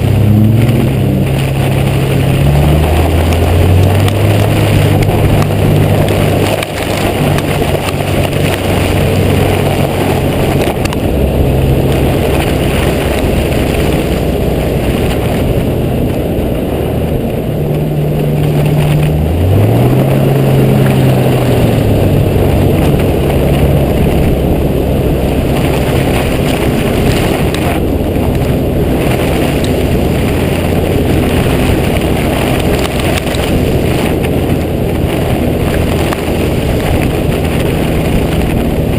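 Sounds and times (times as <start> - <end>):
car engine running: 0.0 - 38.9
road noise: 0.0 - 38.9.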